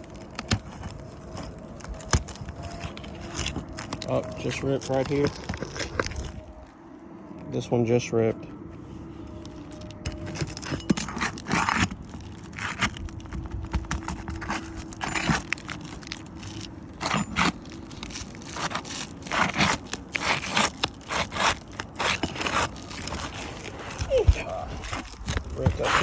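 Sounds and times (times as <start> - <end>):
shingles crunching and tearing: 0.0 - 6.8, 9.4 - 26.0
pry tool scraping under shingles: 0.1 - 6.4, 9.7 - 26.0.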